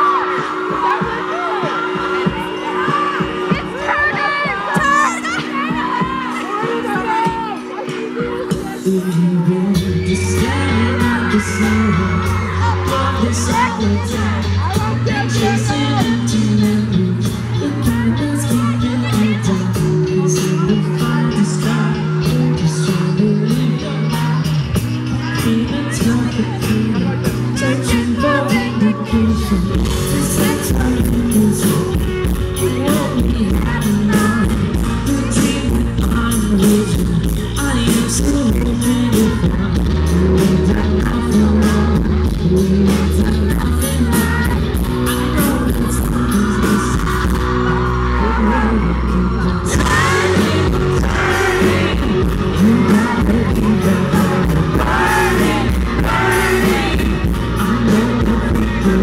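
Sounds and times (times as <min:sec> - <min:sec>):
live pop-rock band: 0:00.0 - 0:59.0
man singing: 0:06.2 - 0:59.0.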